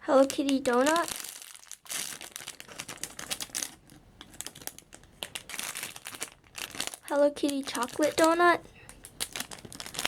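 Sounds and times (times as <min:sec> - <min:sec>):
plastic packaging crinkling: 0:00.1 - 0:10.0.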